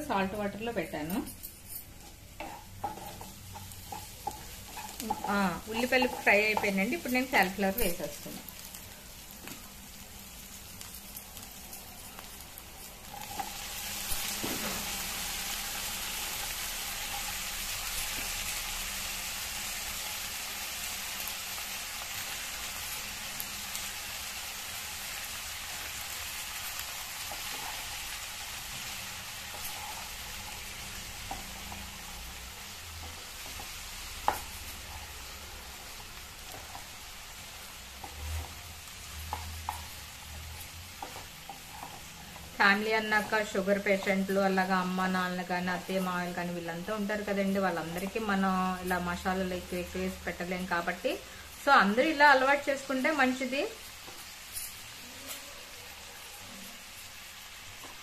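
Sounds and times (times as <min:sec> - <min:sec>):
vegetables sizzling in hot oil: 0:00.0 - 0:58.0.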